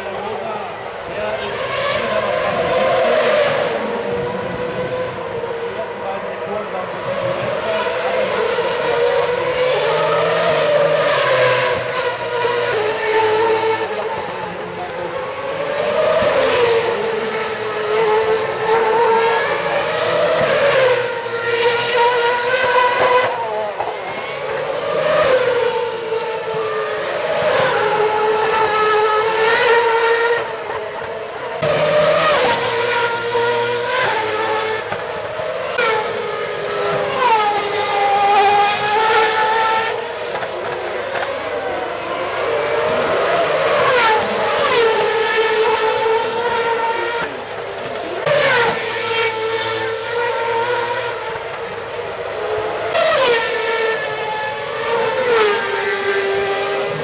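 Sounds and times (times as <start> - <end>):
racing car engines passing: 0.0 - 57.0.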